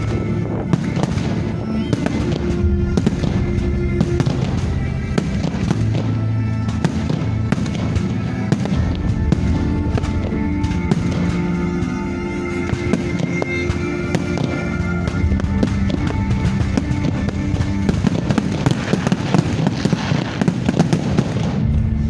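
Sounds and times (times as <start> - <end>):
fireworks bangs: 0.0 - 22.0
loud music: 0.0 - 22.0.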